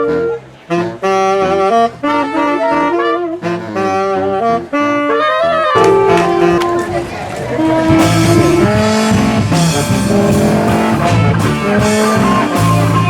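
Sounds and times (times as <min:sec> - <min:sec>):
jazzy saxophone music: 0:00.0 - 0:13.0.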